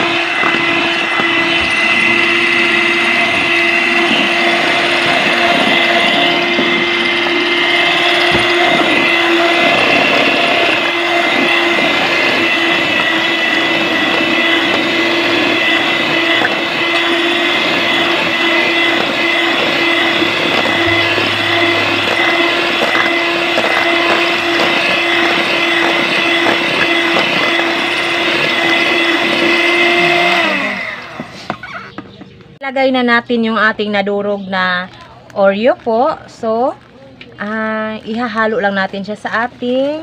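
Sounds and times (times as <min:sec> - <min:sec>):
electric hand mixer whirring: 0:00.0 - 0:32.0.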